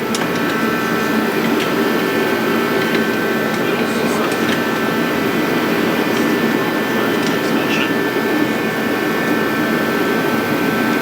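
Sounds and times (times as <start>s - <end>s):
faint steady whine: 0.0s - 11.0s
loud machine drone: 0.0s - 11.0s.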